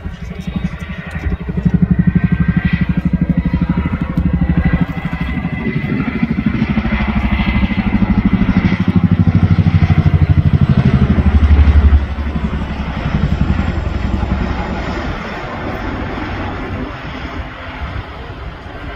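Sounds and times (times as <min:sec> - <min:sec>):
helicopter rotor blades beating: 0:00.0 - 0:18.9.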